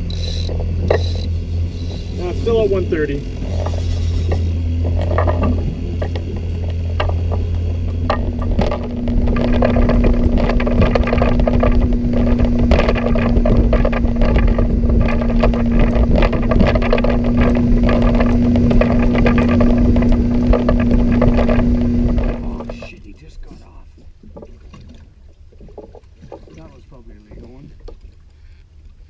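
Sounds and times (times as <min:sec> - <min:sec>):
outboard motor droning: 0:00.0 - 0:29.0
water noise: 0:00.0 - 0:29.0.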